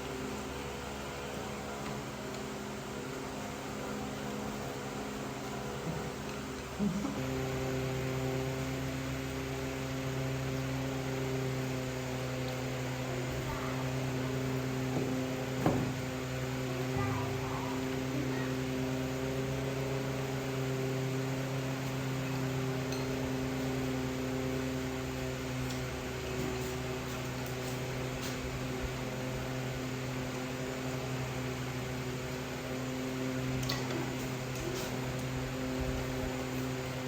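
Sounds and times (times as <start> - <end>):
motor or fan humming: 0.0 - 37.0.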